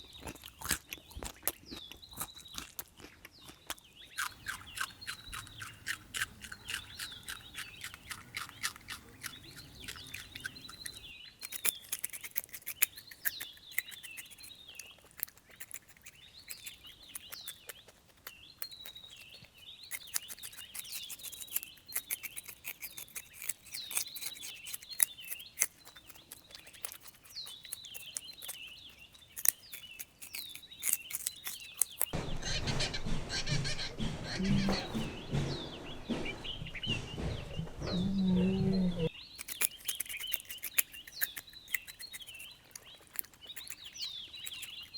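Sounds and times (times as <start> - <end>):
rabbit chewing: 0.0 - 44.9
small birds chirping: 0.0 - 44.9.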